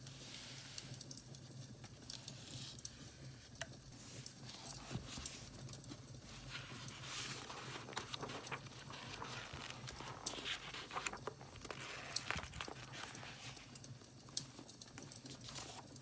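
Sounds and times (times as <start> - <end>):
low steady hum: 0.0 - 16.0
paper rustling: 1.8 - 16.0.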